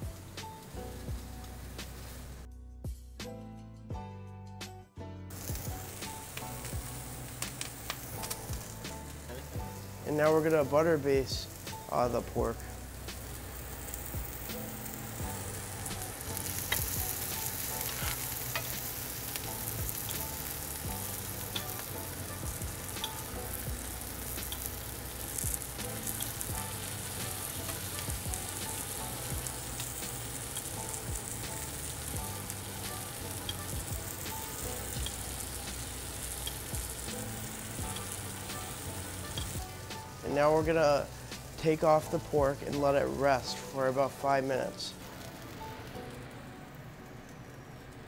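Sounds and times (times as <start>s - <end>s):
meat sizzling in butter: 0.0s - 2.5s, 5.3s - 46.4s.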